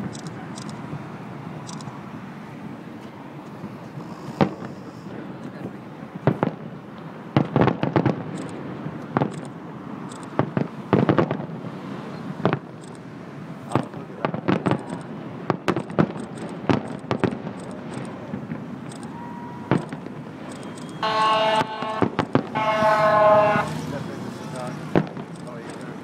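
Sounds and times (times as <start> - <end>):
fireworks bursting with sharp bangs: 3.6 - 26.0.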